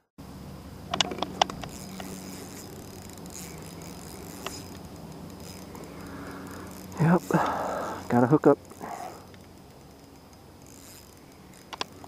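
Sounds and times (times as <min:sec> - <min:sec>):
background hiss: 0:00.2 - 0:12.0
fishing reel clicks: 0:00.9 - 0:12.0.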